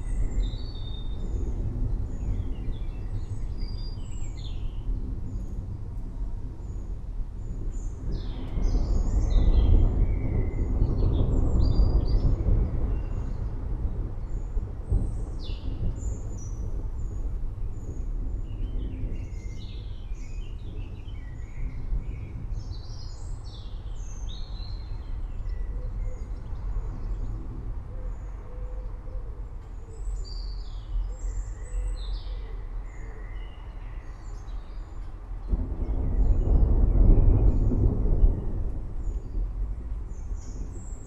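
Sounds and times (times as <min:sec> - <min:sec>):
forest birds chirping: 0:00.0 - 0:41.0.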